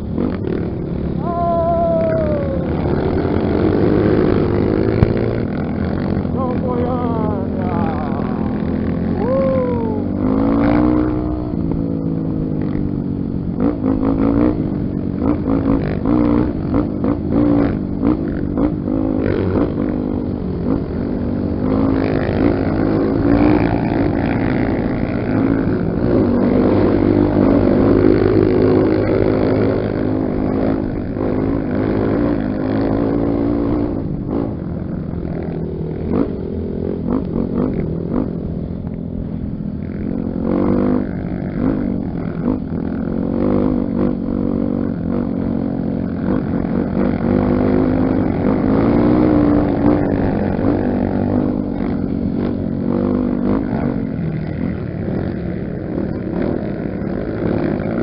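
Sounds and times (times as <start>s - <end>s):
dirt bike engine revving: 0.0s - 58.0s
other engines: 0.0s - 58.0s.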